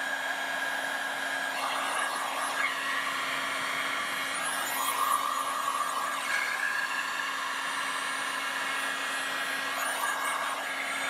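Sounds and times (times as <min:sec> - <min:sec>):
motor hum: 0:00.4 - 0:11.0.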